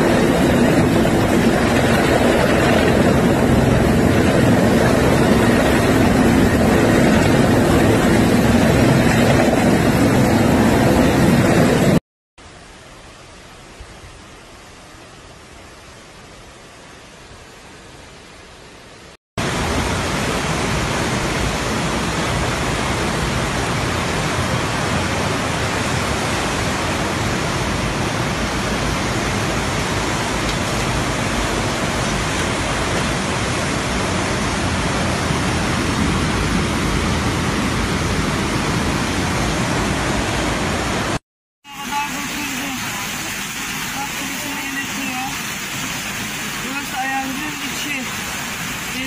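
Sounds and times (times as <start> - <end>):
floodwater rushing: 0.0 - 14.2, 18.6 - 49.0.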